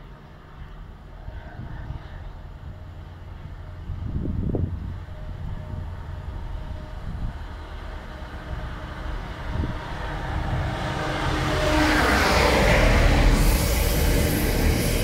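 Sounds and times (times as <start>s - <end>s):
diesel locomotive approaching: 0.0s - 15.0s.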